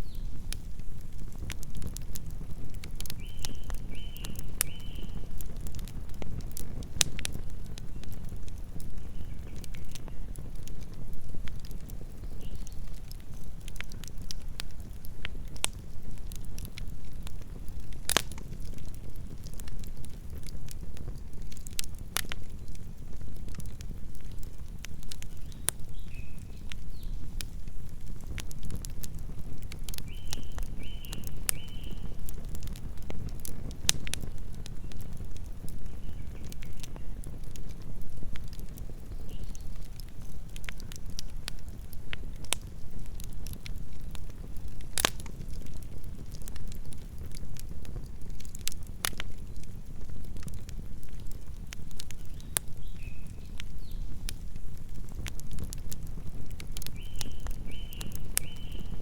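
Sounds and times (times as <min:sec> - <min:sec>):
burning wood crackling and popping: 0:00.0 - 0:59.0
low rumble of flames: 0:00.0 - 0:59.0.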